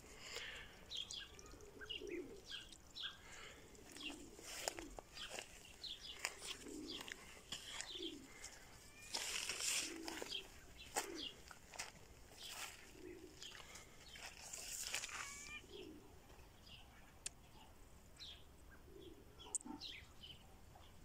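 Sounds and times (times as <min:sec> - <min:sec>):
dove cooing: 0:00.0 - 0:16.5, 0:18.8 - 0:20.9
small birds chirping: 0:00.0 - 0:21.0.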